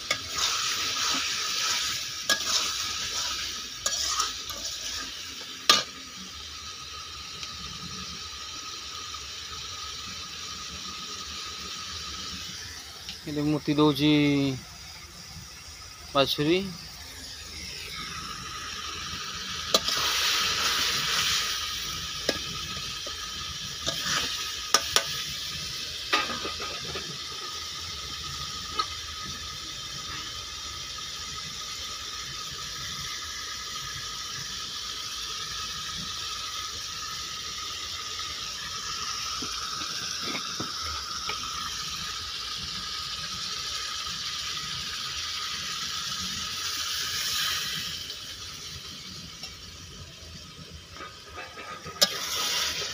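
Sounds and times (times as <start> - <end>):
curry simmering and sizzling: 0.0 - 52.9.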